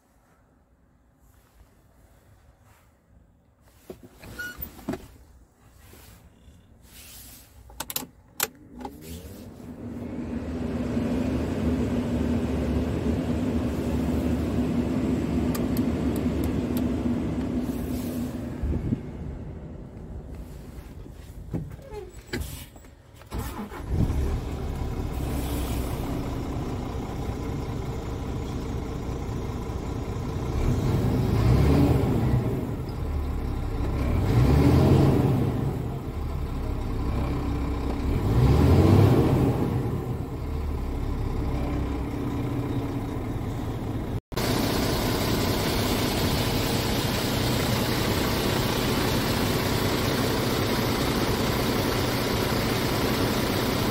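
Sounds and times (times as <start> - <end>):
diesel truck engine idling and revving: 8.3 - 53.9.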